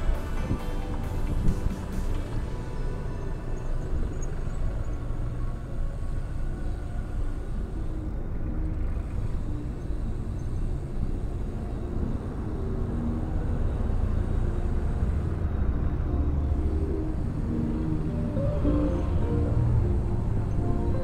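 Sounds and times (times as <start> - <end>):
vehicle engines rumbling: 0.0 - 21.0.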